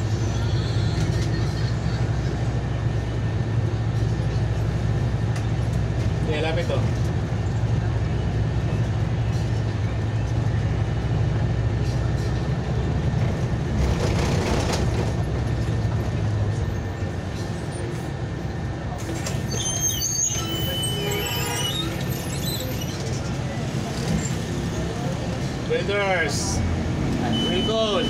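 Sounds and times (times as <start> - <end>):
vehicle low rumble: 0.0 - 28.0.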